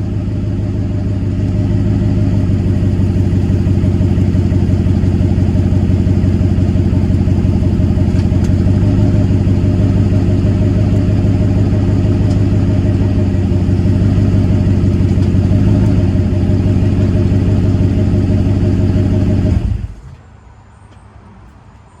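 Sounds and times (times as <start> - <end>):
truck engine idling loudly: 0.0 - 20.2.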